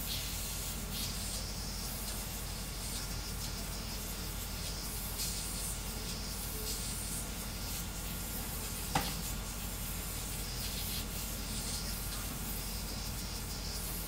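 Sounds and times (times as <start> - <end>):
three d printer motors and fans: 0.0 - 14.0.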